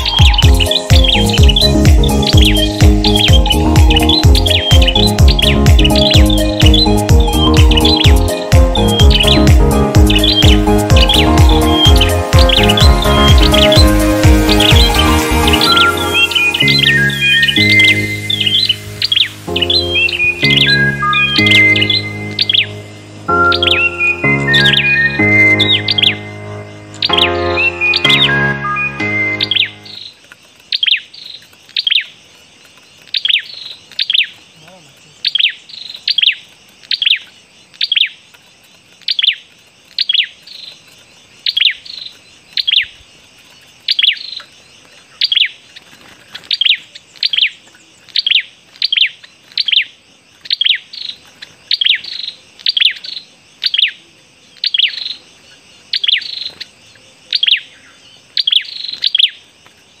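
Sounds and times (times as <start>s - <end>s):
small bird chip calls: 0.0s - 60.0s.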